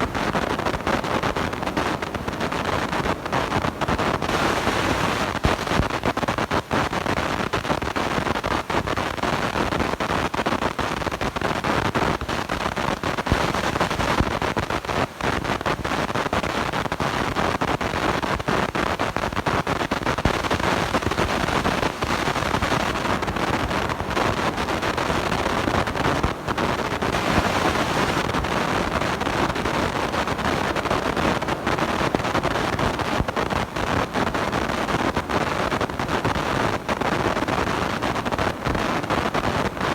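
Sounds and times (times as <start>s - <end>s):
crackling microphone static: 0.0s - 39.9s.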